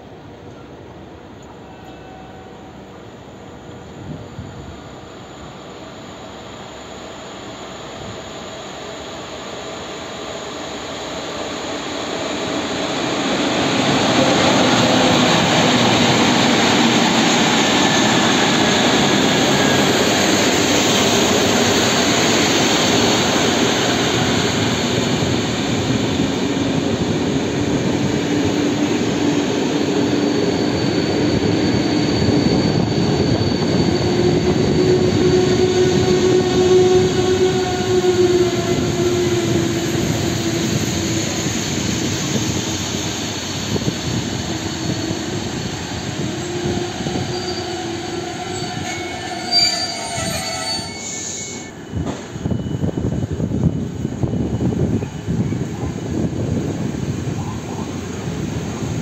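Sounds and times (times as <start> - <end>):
train rumbling past: 0.0 - 59.0
faint squealing brakes: 1.5 - 27.0, 28.4 - 56.6
train coaches rolling: 7.9 - 59.0.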